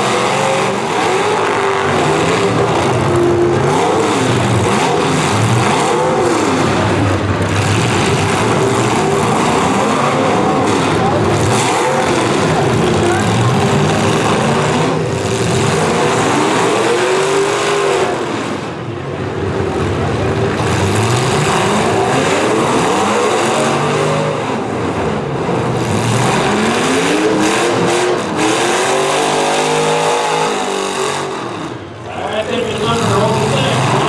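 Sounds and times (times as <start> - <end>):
car engines revving hard: 0.0 - 34.0.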